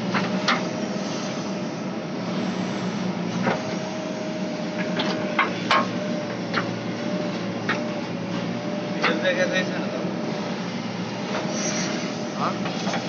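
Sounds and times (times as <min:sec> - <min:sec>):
backhoe loader whining: 0:00.0 - 0:13.0.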